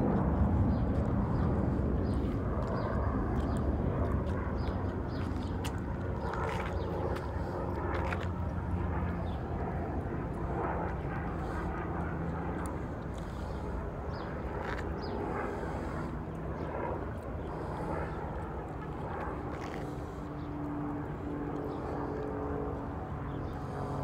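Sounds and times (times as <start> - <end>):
airplane rumble overhead: 0.0 - 24.0
faint engine tones: 0.0 - 24.0.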